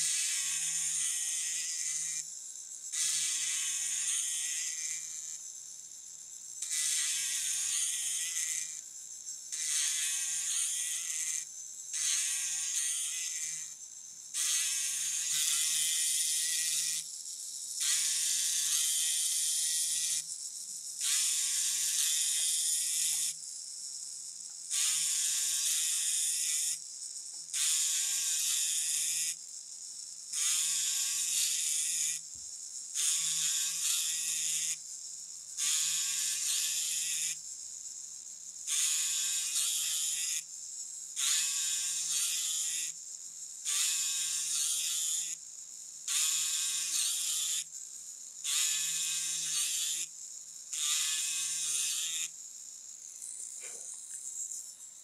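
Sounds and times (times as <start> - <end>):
power cutter buzzing into wood: 0.0 - 2.3, 2.9 - 5.4, 6.6 - 23.4, 24.1 - 29.5, 30.2 - 37.6, 38.5 - 55.0.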